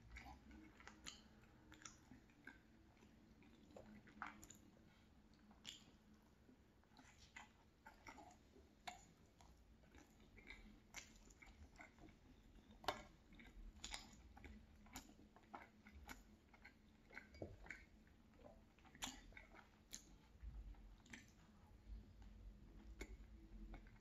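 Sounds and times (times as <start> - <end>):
wet chewing mouth sounds: 0.0 - 24.0.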